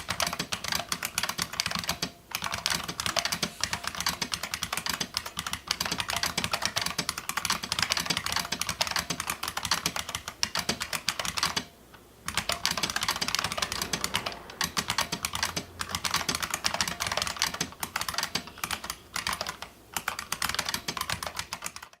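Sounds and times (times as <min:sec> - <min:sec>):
clicky keyboard typing: 0:00.0 - 0:22.0.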